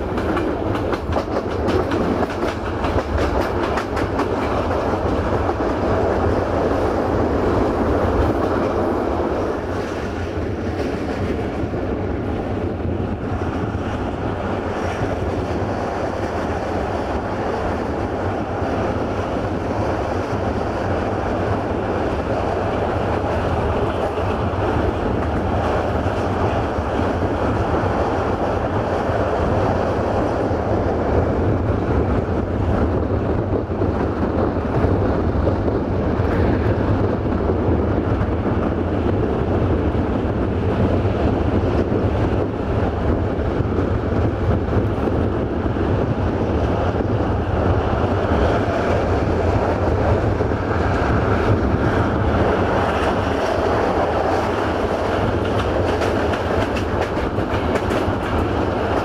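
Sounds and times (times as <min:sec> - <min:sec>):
rushing air noise: 0:00.0 - 0:59.0
train wheels rumbling on rails: 0:00.0 - 0:59.0.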